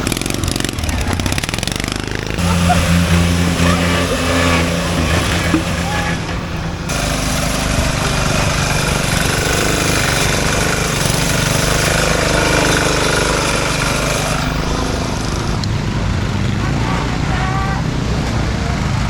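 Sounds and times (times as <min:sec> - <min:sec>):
riding lawn mower engine running: 0:00.0 - 0:19.0.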